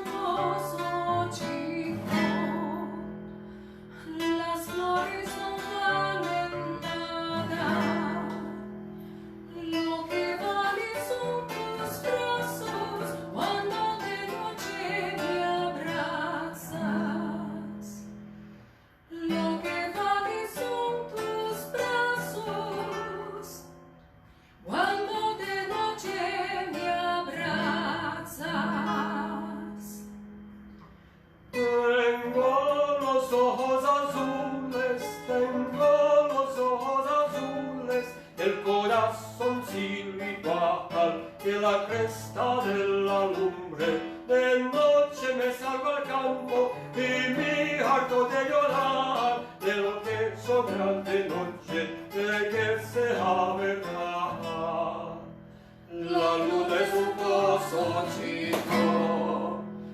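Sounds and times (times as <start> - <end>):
person singing: 0.0 - 3.2, 4.0 - 8.7, 9.5 - 18.1, 19.1 - 23.7, 24.6 - 30.1, 31.6 - 55.3, 55.9 - 59.9
acoustic guitar playing folk tune: 0.0 - 59.9.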